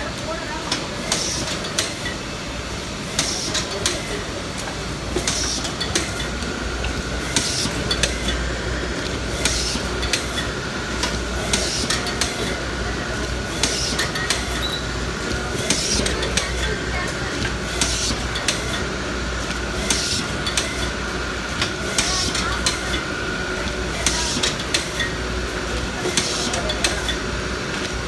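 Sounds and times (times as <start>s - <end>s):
machine mechanical hum: 0.0s - 28.0s.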